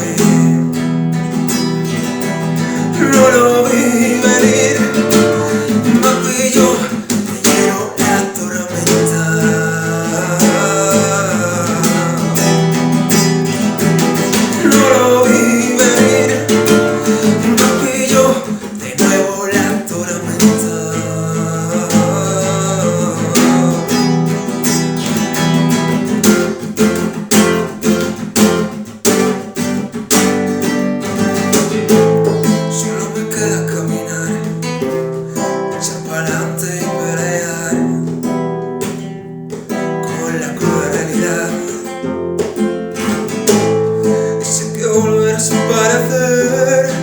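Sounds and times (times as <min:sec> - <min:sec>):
pop song accompaniment: 0:00.0 - 0:00.8, 0:02.4 - 0:25.3, 0:31.0 - 0:39.0, 0:39.6 - 0:47.0
acoustic guitar strumming: 0:00.0 - 0:47.0.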